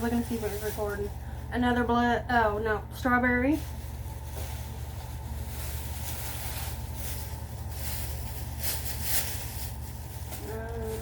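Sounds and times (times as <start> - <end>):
rustling of handled things: 0.0 - 1.8, 3.2 - 11.0
air-conditioning vent hum: 0.0 - 11.0.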